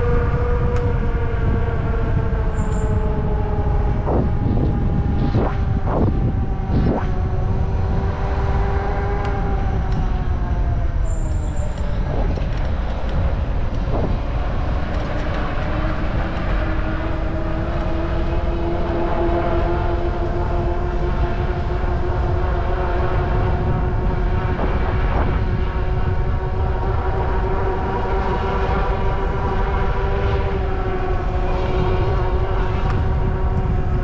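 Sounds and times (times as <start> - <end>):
steady hum: 0.0 - 34.0
wind rushing over microphone: 0.0 - 34.0.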